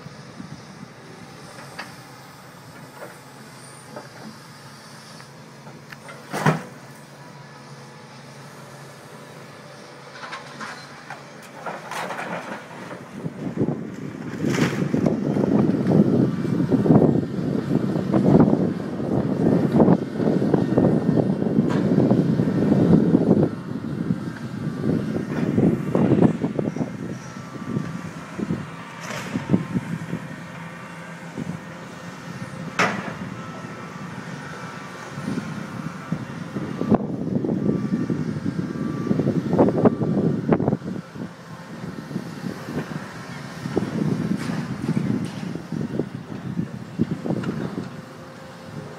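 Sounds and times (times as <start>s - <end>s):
excavator engines running: 0.0s - 48.9s.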